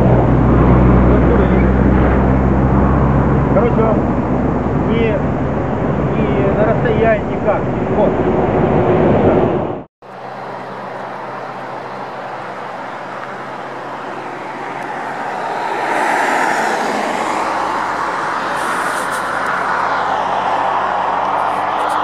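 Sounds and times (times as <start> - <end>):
highway traffic noise: 0.0 - 22.0
vehicle passing: 0.0 - 22.0.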